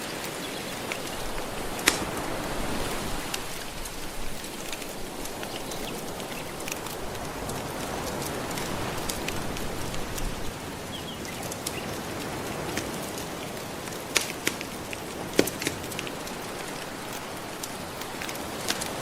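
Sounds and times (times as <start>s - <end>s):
gentle ocean waves: 0.0s - 19.0s
wood fire crackling: 0.0s - 19.0s.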